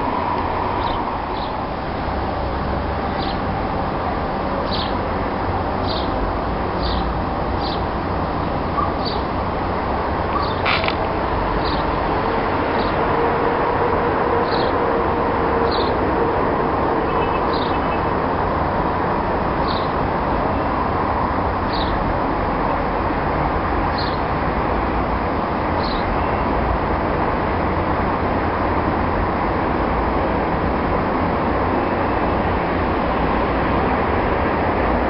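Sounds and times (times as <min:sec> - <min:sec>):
rushing outdoor noise: 0:00.0 - 0:35.0.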